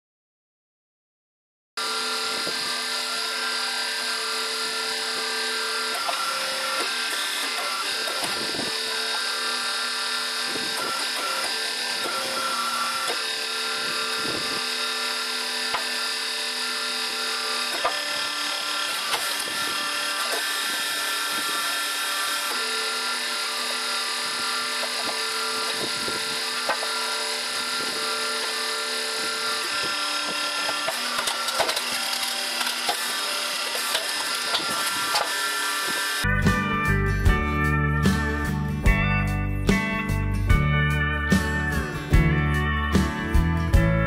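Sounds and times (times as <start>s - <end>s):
log splitter motor humming: 1.8s - 44.0s.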